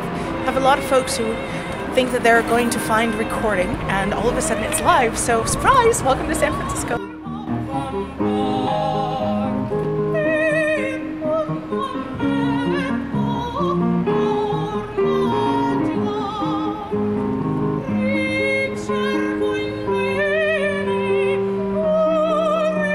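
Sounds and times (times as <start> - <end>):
instrumental accompaniment: 0.0 - 22.9
woman singing opera with vibrato: 0.0 - 22.9.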